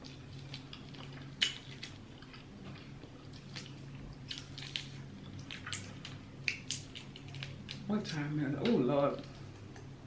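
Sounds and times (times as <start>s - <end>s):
wet chewing: 0.0s - 8.2s
low steady hum: 0.0s - 10.0s.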